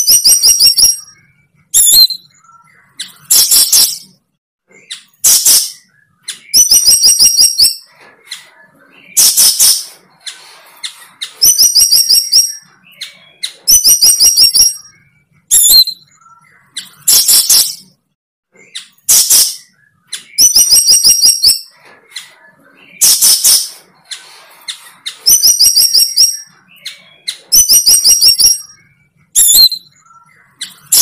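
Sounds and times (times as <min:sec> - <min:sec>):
bird squawking and trilling: 0:00.0 - 0:17.9, 0:18.6 - 0:31.0.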